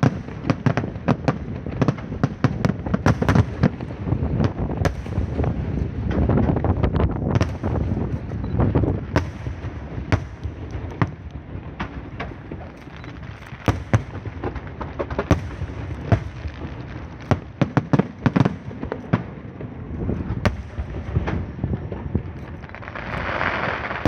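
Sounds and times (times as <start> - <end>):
fireworks banging: 0.0 - 24.0.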